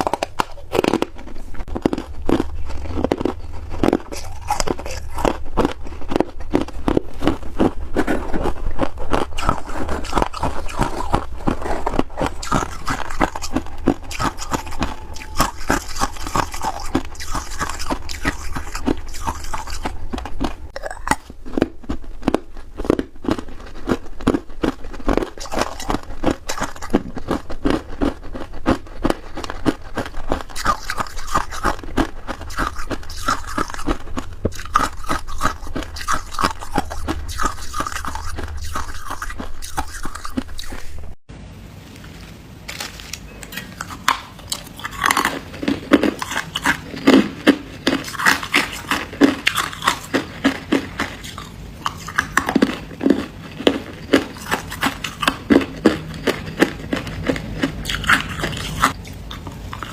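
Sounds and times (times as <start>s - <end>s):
crunching and chewing frost: 0.0s - 41.2s, 42.7s - 59.9s.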